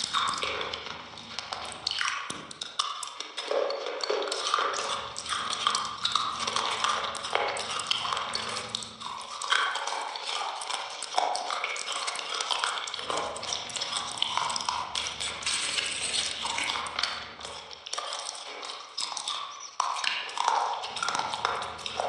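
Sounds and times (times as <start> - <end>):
close chewing with mouth clicks: 0.0 - 22.0.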